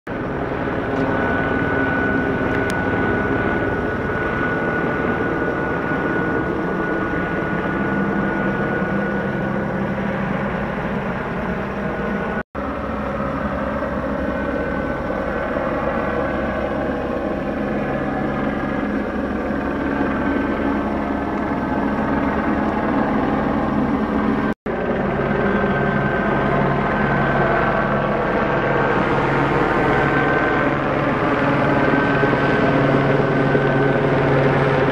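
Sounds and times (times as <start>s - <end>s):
engine drone with throb: 0.1s - 34.9s.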